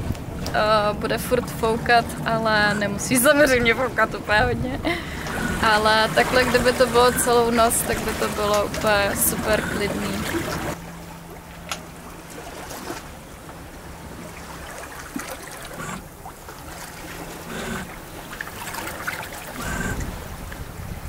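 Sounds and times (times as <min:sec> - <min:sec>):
boat knocks and creaks: 0:00.0 - 0:21.0
water rushing along hull: 0:00.0 - 0:21.0
wind: 0:00.0 - 0:21.0.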